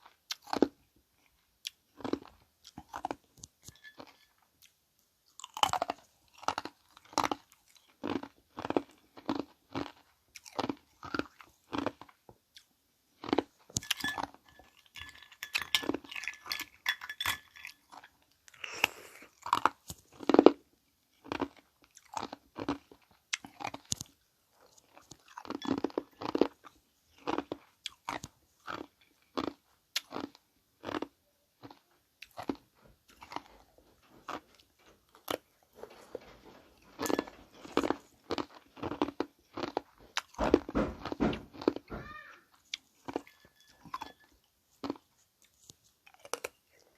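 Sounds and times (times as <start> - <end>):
ice being chewed: 0.0 - 41.9, 42.5 - 46.9.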